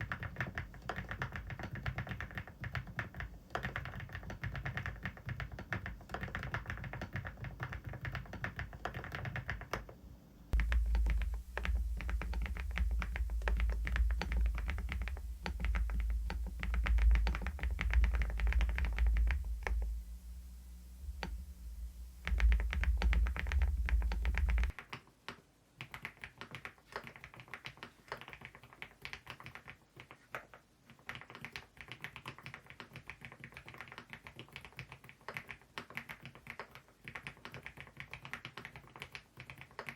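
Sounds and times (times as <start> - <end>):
mechanical keyboard typing: 0.0 - 10.0, 10.6 - 19.9, 22.2 - 39.9.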